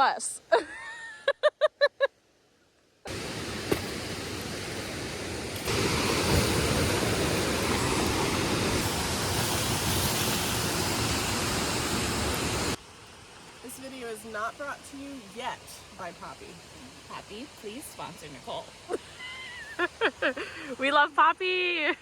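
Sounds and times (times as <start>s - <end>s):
flowing water rushing: 3.1s - 21.7s.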